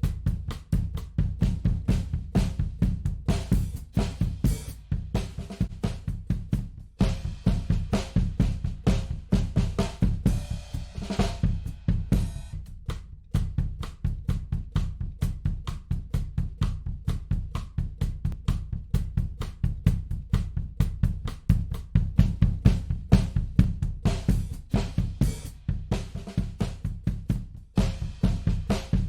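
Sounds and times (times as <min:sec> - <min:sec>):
drum kit playing busy beat: 0:00.0 - 0:29.0.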